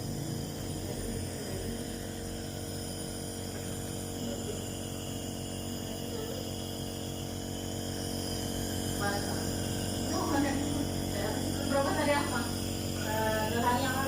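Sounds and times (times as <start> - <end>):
nebulizer humming: 0.0 - 14.0.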